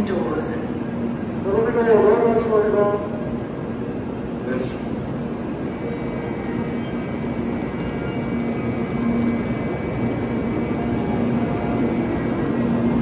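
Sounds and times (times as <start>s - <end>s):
faint hum: 0.0s - 13.0s
train rumble and whir: 0.0s - 13.0s.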